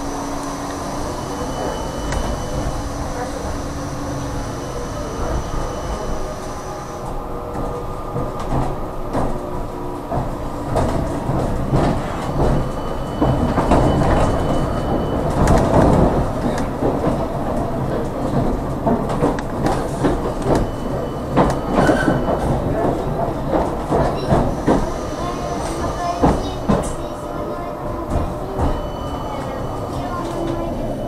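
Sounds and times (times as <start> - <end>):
tram wheels rumbling on rails: 0.0 - 31.0.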